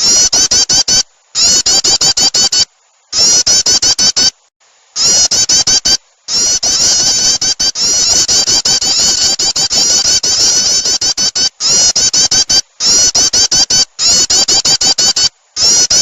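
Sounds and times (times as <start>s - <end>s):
bird chattering calls: 0.0s - 4.3s, 5.0s - 16.0s.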